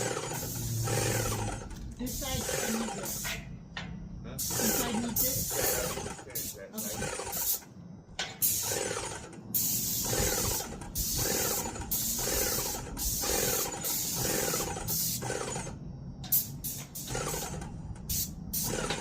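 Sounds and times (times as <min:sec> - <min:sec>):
chattering mechanical buzz: 0:00.0 - 0:03.3, 0:04.2 - 0:07.7, 0:08.5 - 0:09.4, 0:10.0 - 0:15.8, 0:16.5 - 0:19.0
paint sprayer hissing: 0:00.0 - 0:03.4, 0:04.4 - 0:07.6, 0:08.4 - 0:15.2, 0:16.3 - 0:19.0.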